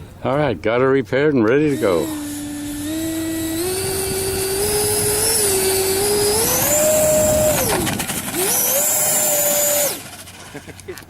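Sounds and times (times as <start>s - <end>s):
model airplane motor whining: 1.5s - 10.9s.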